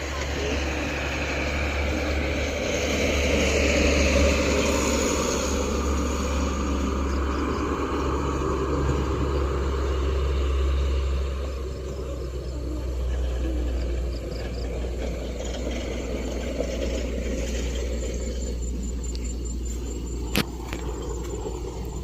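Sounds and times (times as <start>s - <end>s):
broad rushing noise: 0.0s - 22.0s
engine rumble: 0.0s - 22.0s.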